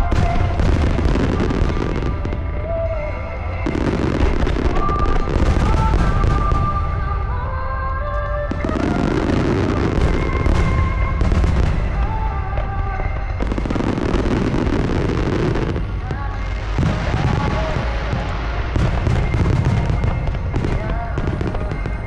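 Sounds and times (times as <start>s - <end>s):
fireworks booming and crackling: 0.0s - 22.0s
music with singing: 0.0s - 22.0s.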